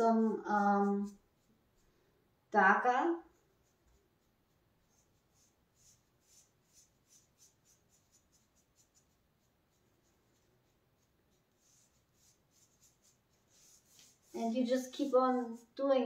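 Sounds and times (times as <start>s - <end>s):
paintbrush swishing: 0.0s - 1.9s, 3.2s - 16.0s.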